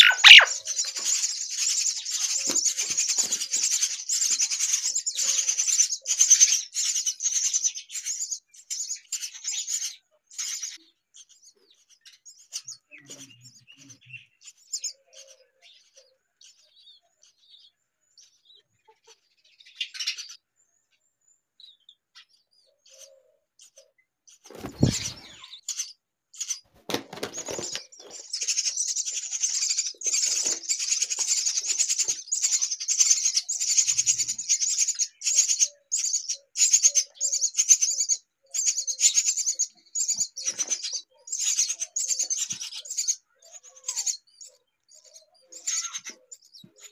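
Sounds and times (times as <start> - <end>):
baby birds chirping rapidly: 0.0 - 17.4, 22.1 - 46.9.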